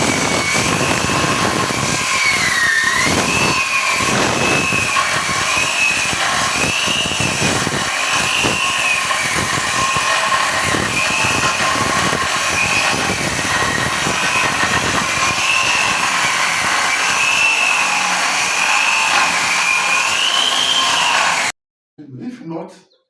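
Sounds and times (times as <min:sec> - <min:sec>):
power tool cutting into wall: 0:00.0 - 0:21.6.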